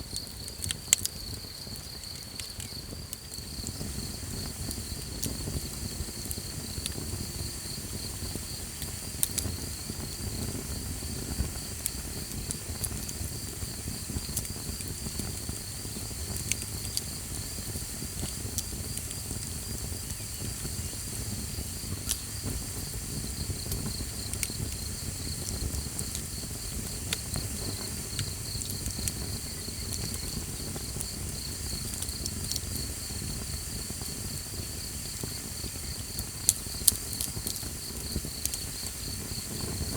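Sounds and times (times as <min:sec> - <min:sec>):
campfire crackling: 0:00.0 - 0:39.9
insect trill: 0:00.0 - 0:39.9.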